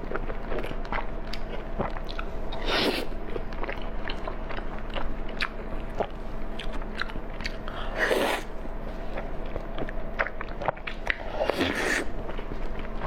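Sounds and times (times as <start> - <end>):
person chewing and biting food: 0.0 - 13.0.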